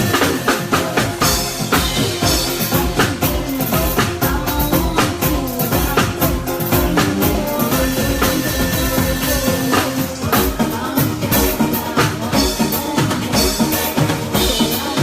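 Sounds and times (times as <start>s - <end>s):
bass: 0.0s - 15.0s
drum kit: 0.0s - 15.0s
keyboard or guitar lines: 0.0s - 15.0s.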